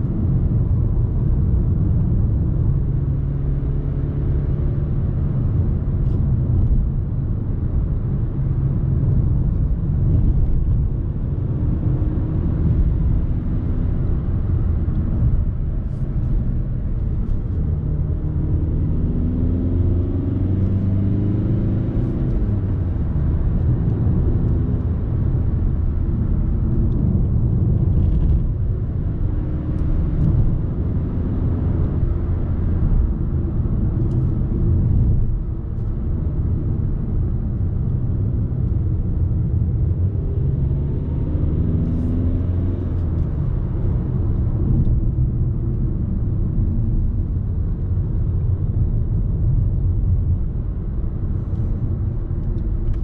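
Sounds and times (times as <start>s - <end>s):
diesel car engine running: 0.0s - 53.0s
road rumble: 0.0s - 53.0s.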